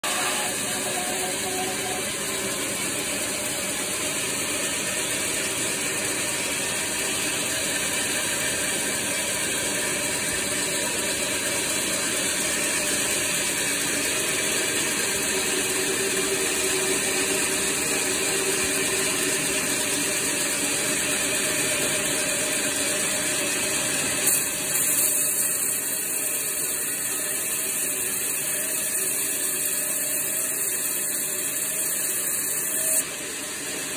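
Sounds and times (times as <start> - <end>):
band saw running: 0.0 - 33.9.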